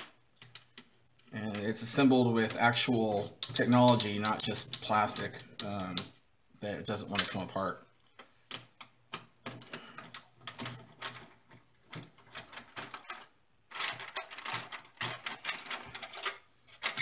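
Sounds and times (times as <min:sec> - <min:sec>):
hard plastic clicking and rattling: 0:00.0 - 0:06.2, 0:06.9 - 0:17.0.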